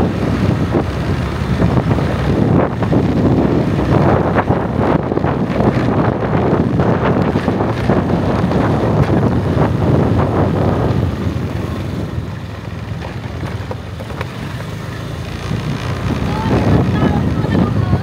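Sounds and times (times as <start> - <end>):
vehicle travelling along road: 0.0 - 18.0
wind buffeting microphone: 0.0 - 18.0.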